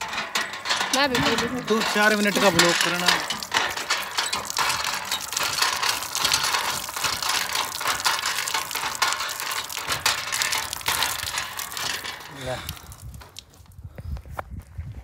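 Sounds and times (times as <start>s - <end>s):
hand pump handle clanking: 0.0s - 13.5s
water splashing onto concrete: 0.0s - 13.7s.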